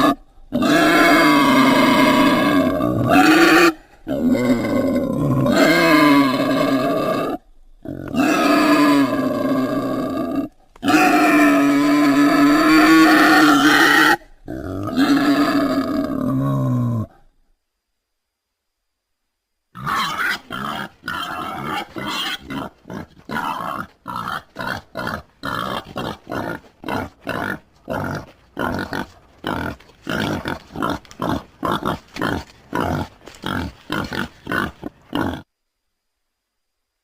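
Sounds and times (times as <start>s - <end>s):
wild boar grunting: 0.0s - 17.2s, 19.8s - 35.5s.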